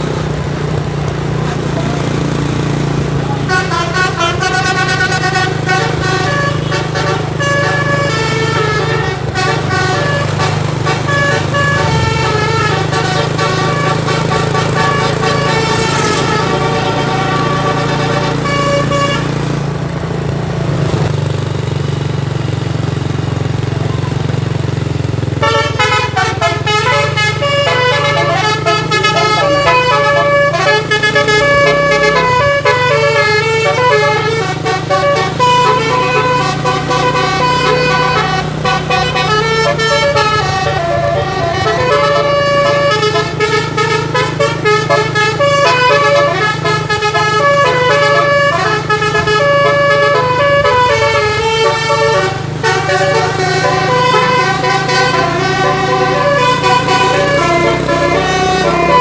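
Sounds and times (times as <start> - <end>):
bus humming: 0.0 - 59.0
musical air horn melody: 1.4 - 19.8, 24.2 - 59.0.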